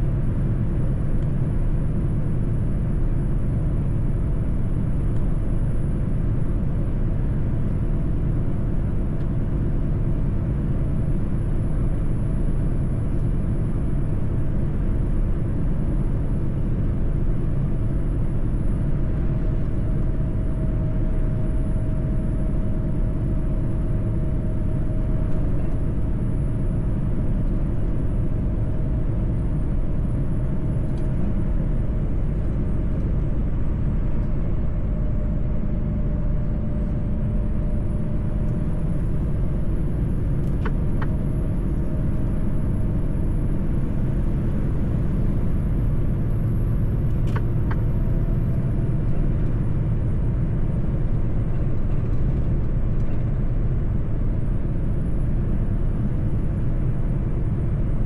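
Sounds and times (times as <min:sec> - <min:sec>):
truck engine and road rumble: 0:00.0 - 0:58.0
faint high whine: 0:08.4 - 0:58.0.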